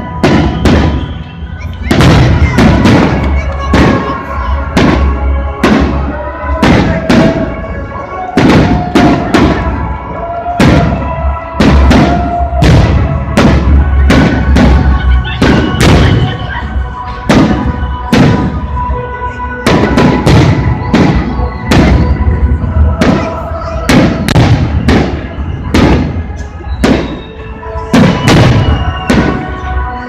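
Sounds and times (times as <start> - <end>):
fireworks bangs: 0.0 - 30.0
music playing: 0.0 - 30.0.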